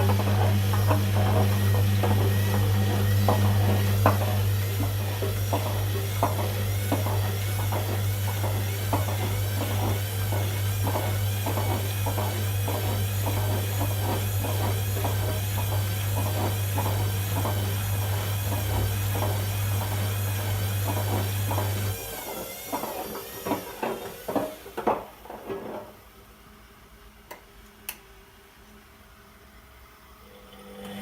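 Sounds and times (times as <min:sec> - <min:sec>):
washing drum swishing: 0:00.0 - 0:26.0
washing machine hum: 0:00.0 - 0:31.0.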